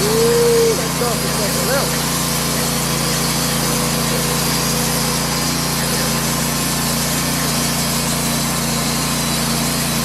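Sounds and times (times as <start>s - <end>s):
gasoline engine running: 0.0s - 10.0s.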